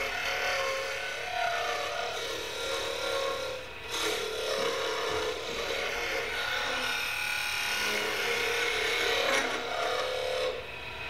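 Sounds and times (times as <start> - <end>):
chisel scraping spinning wood: 0.0 - 10.8
lathe running hum: 0.0 - 11.0.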